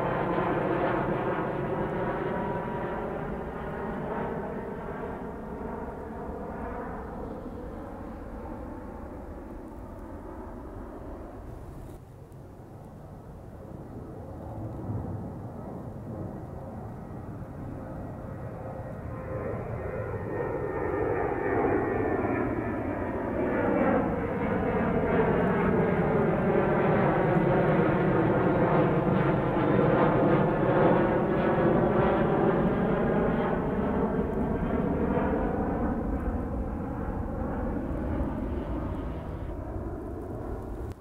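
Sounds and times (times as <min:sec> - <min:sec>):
jet engines roaring overhead: 0:00.0 - 0:41.0.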